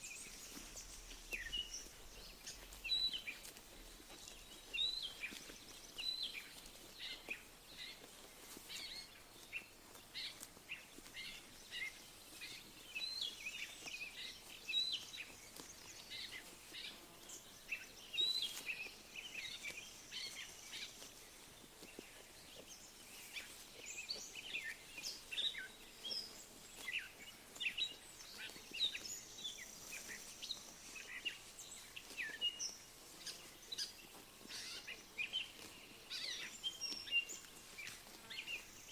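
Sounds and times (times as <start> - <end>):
small birds chirping: 0.0 - 38.9
soft outdoor hush: 0.0 - 38.9.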